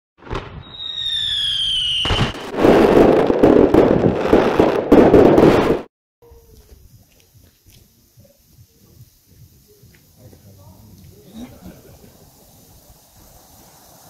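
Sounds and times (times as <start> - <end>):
firework bangs and crackling: 0.2 - 14.0
firework whistling: 0.2 - 14.0.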